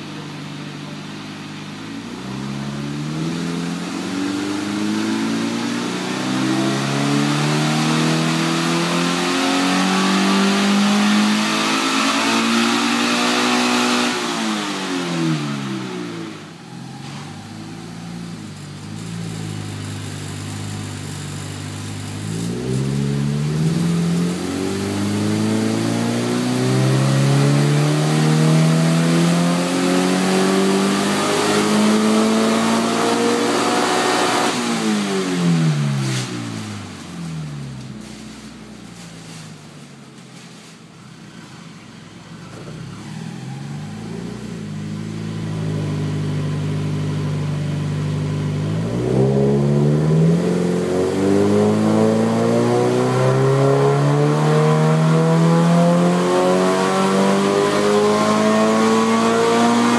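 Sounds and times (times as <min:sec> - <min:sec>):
car engine revving on a dyno: 0:00.0 - 0:40.2, 0:41.7 - 0:59.9.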